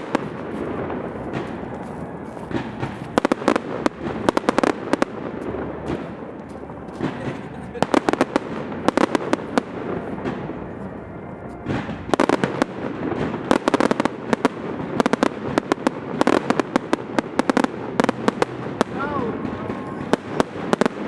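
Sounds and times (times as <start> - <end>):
continuous low rumble: 0.0 - 21.0
fireworks bangs and crackles: 0.0 - 21.0.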